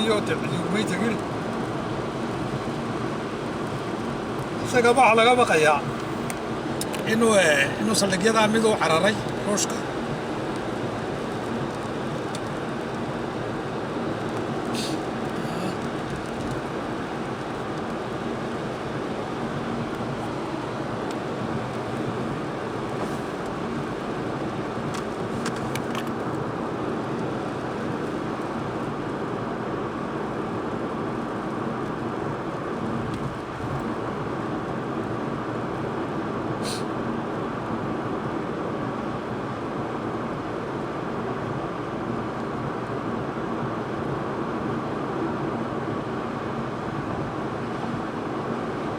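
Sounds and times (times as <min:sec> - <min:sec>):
vehicle road and engine noise: 0:00.0 - 0:48.9.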